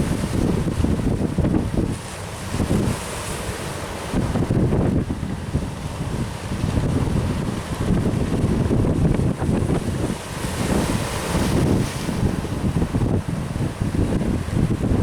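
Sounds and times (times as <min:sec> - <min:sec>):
wind buffeting microphone: 0:00.0 - 0:03.1, 0:04.1 - 0:15.0
sea surf: 0:00.0 - 0:15.0.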